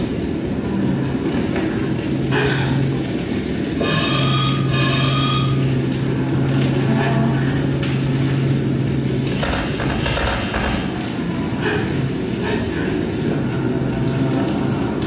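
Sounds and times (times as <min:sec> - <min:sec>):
rushing hissing noise: 0:00.0 - 0:15.0
steady low hum: 0:00.0 - 0:15.0.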